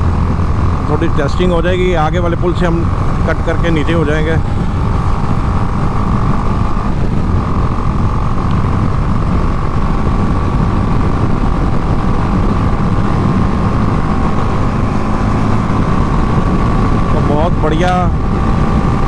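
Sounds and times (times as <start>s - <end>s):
motorcycle engine droning: 0.0s - 19.0s
wind buffeting microphone: 0.0s - 19.0s.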